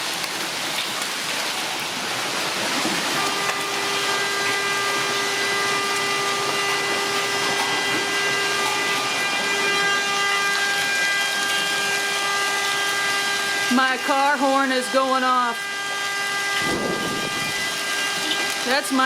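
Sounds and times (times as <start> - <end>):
heavy rain pouring: 0.0 - 19.0
car horn steady note: 3.1 - 18.8.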